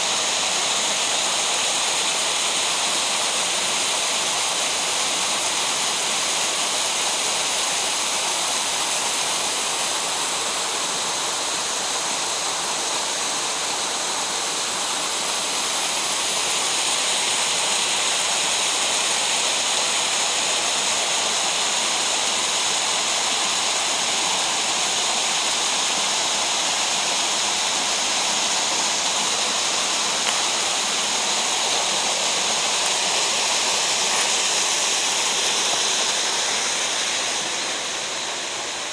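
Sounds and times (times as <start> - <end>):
rushing stream water: 0.0 - 38.9.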